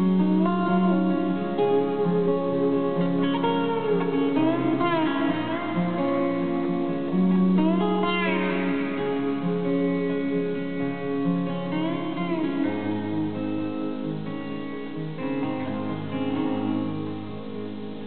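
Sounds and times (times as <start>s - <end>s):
acoustic guitar band instrumental: 0.0s - 18.0s
gliding lead guitar line: 0.0s - 18.0s.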